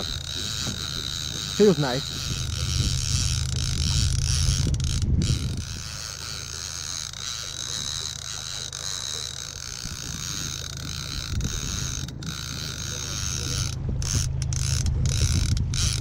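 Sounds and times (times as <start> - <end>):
low rumble: 0.0 - 8.8, 9.6 - 16.0
fishing reel ticking: 0.0 - 16.0.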